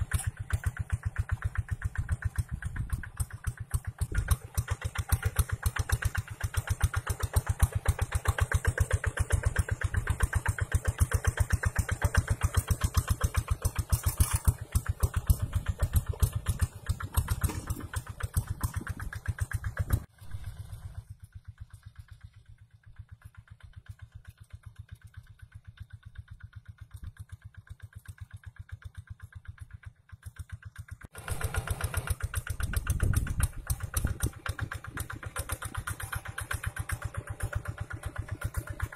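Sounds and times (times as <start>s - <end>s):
diesel tractor engine chugging: 0.0s - 38.9s.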